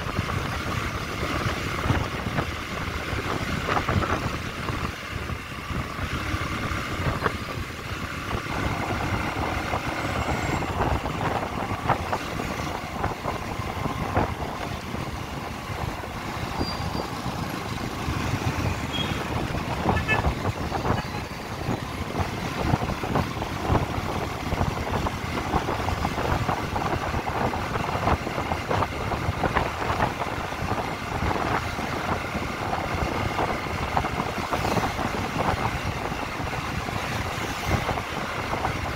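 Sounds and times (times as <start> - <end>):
motorcycle engine rumble: 0.0 - 38.9
wind buffeting microphone: 0.0 - 38.9.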